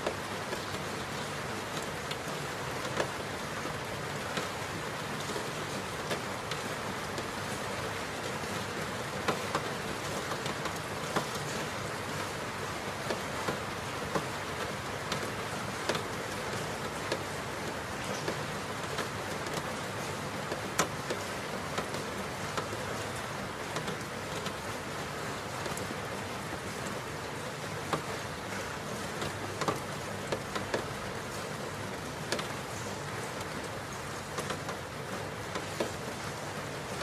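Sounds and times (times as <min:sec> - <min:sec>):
rain drop ticks: 0:00.0 - 0:37.0
steady rain: 0:00.0 - 0:37.0.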